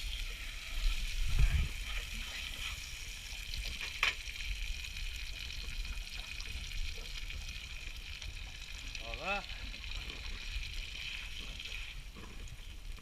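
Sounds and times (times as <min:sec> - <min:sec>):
food sizzling in a pan: 0:00.0 - 0:12.2.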